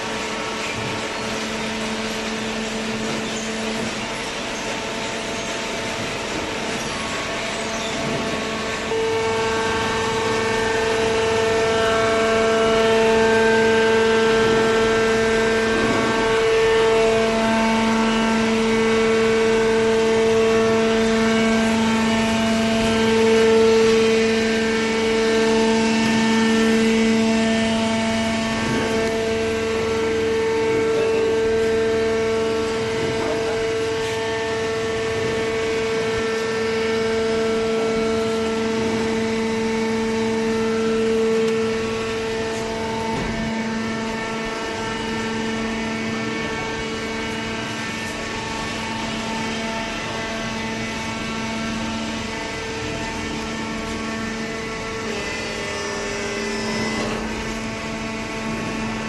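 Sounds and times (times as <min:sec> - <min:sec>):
motor and hydraulic pump humming: 0:00.0 - 0:59.0.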